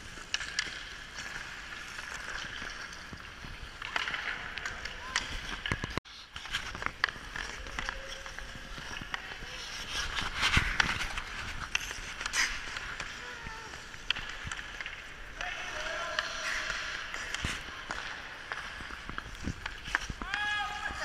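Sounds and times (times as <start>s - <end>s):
hockey sticks clicking on puck: 0.0s - 21.0s
skate blades scraping ice: 0.0s - 21.0s.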